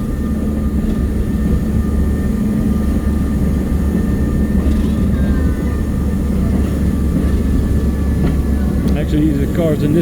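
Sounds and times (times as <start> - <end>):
moving train rumble: 0.0 - 10.0.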